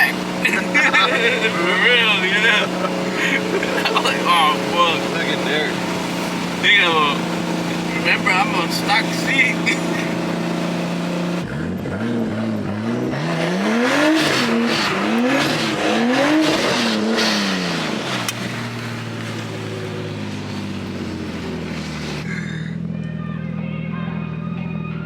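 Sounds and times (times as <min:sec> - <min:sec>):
car engine revving and idling: 0:00.0 - 0:25.0.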